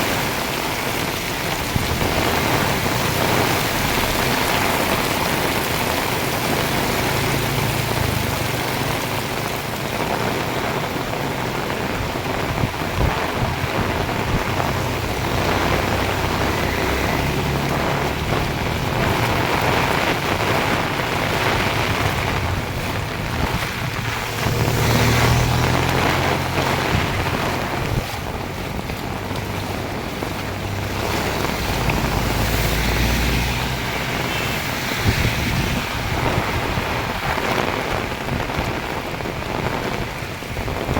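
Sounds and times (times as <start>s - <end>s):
heavy rain pouring: 0.0s - 40.9s
wind gusts buffeting microphone: 0.0s - 40.9s.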